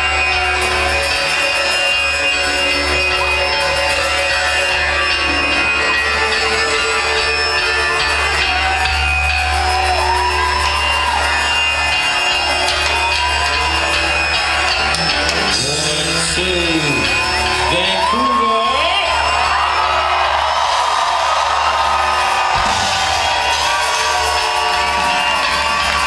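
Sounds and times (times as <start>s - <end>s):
crowd shouting and whooping: 0.0s - 26.0s
loud live concert music: 0.0s - 26.0s.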